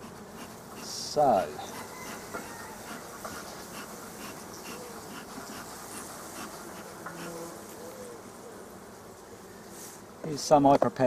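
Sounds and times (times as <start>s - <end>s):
single bee droning past: 0.0s - 10.3s
bees humming: 0.0s - 10.7s.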